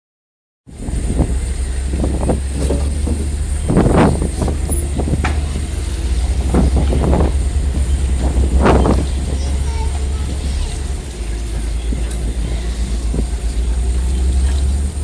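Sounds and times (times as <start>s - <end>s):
ferry engine rumbling: 0.7s - 15.0s.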